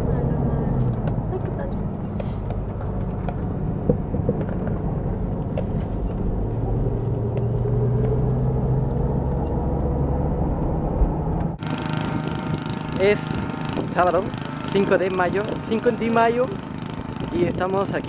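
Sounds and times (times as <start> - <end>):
low hum: 0.0 - 16.0
low mechanical rumble: 0.0 - 18.0.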